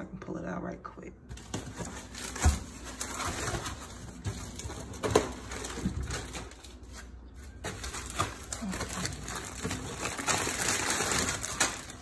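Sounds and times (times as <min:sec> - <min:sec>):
plastic wrapping crinkling: 0:01.3 - 0:12.0.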